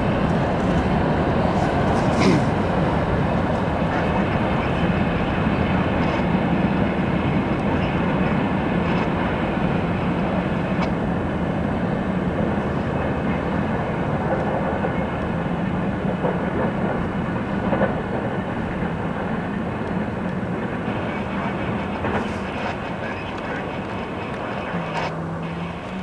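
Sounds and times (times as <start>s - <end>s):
road vehicles driving: 0.0s - 26.0s
train wheels rumbling on rails: 0.0s - 26.0s.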